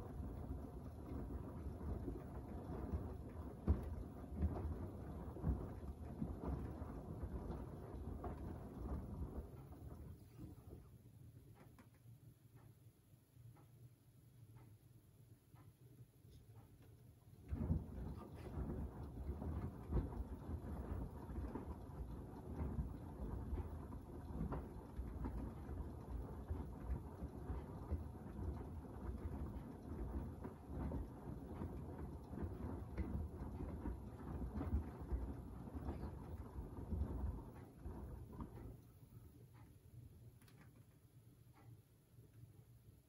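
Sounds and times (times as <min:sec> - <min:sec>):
low rumble of washer drum: 0:00.0 - 0:11.9, 0:17.0 - 0:43.0.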